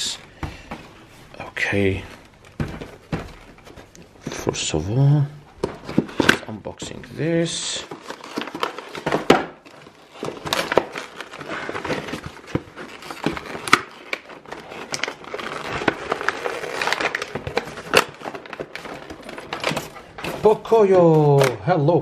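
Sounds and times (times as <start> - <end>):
cardboard and plastic crinkling: 0.0 - 21.6.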